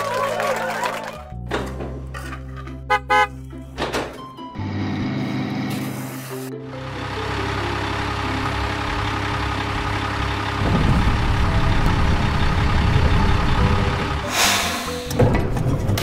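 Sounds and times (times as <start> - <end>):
heavy truck engine: 1.5 - 16.0.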